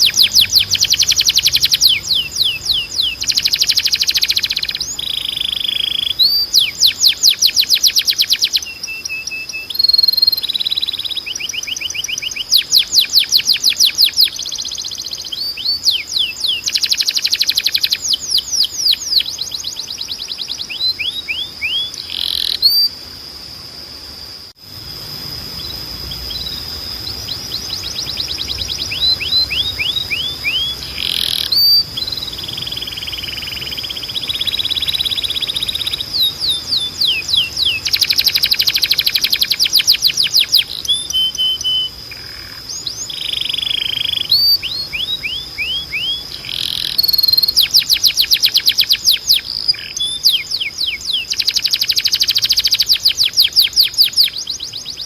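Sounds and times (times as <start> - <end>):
canary singing: 0.0 - 23.0, 25.2 - 55.0.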